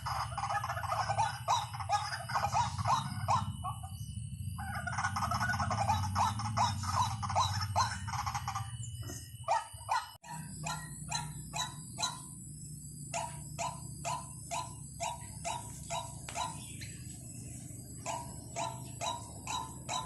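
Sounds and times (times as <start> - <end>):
bird harsh repeated calls: 0.0 - 20.0.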